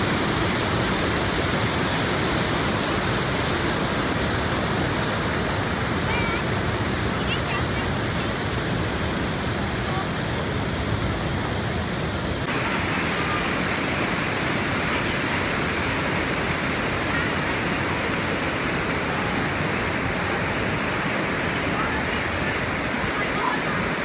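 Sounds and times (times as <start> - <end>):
waterfall rushing into a pool: 0.0 - 24.0.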